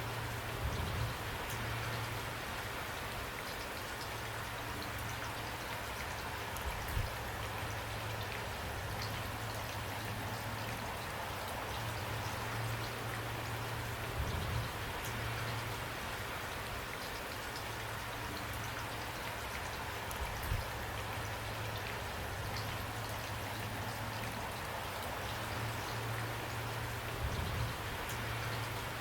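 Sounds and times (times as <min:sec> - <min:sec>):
steady rain hissing: 0:00.0 - 0:29.0
raindrops ticking: 0:03.0 - 0:29.0.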